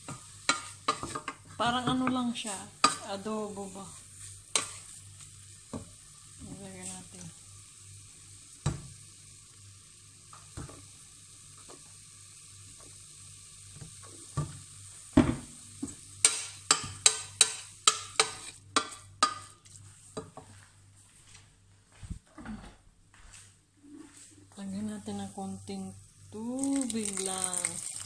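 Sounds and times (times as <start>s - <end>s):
chicken sizzling in a pot: 0.0s - 20.2s, 25.2s - 28.0s.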